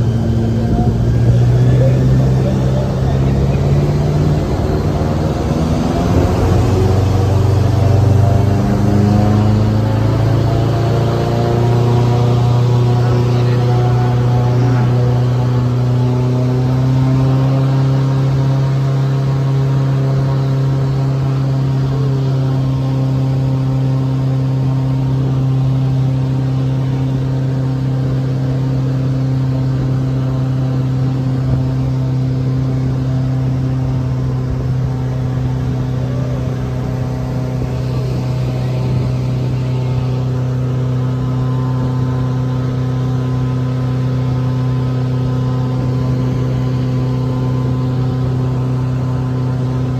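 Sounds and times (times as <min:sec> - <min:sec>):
airboat engine and propeller hum: 0:00.0 - 0:49.9.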